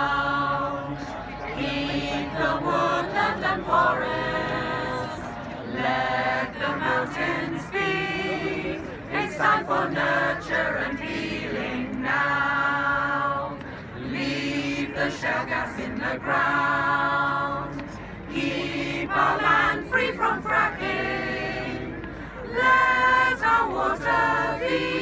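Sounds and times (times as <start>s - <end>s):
choir singing unaccompanied: 0.0s - 25.0s.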